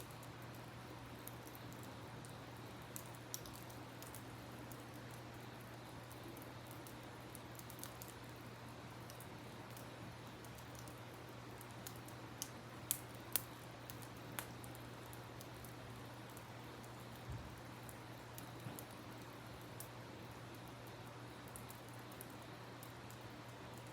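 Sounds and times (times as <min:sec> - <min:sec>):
campfire crackling: 0:00.0 - 0:23.9
fire popping: 0:00.0 - 0:23.9.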